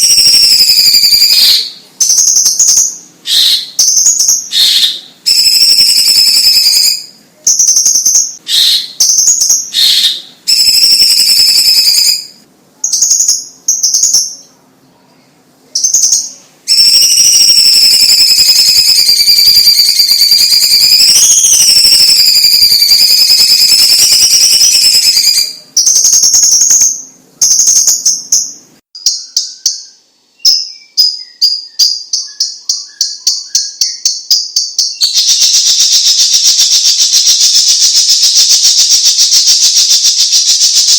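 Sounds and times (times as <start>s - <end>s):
bird singing whistled phrases: 0.0s - 14.6s, 15.7s - 40.9s.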